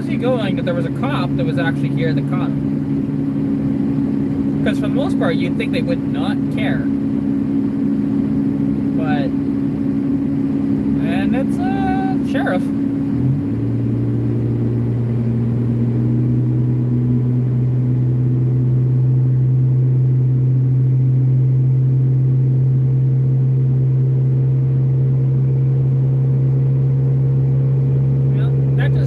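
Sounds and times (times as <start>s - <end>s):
road noise: 0.0s - 29.0s
truck engine humming: 0.0s - 29.0s.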